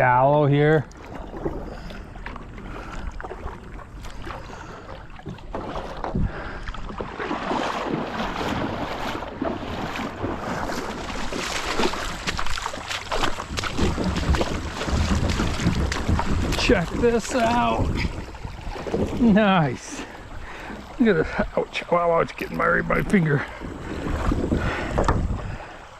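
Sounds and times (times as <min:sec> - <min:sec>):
paddle splashing: 0:00.0 - 0:25.9
rushing water: 0:00.0 - 0:25.9.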